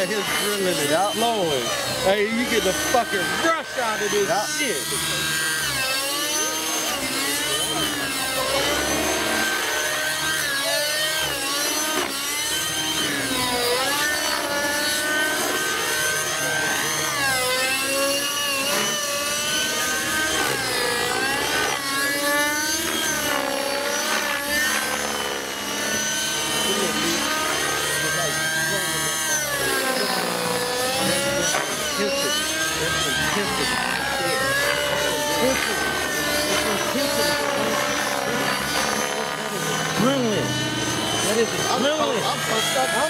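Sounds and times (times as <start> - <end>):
model helicopter engine whine: 0.0 - 43.0.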